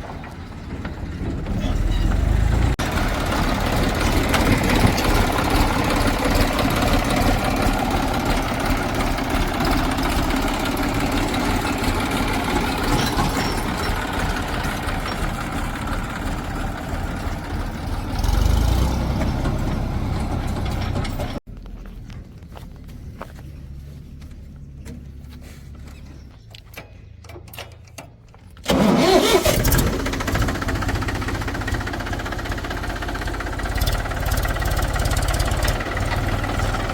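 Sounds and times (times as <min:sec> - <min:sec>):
heavy diesel engine running: 0:00.0 - 0:25.7, 0:28.6 - 0:36.9.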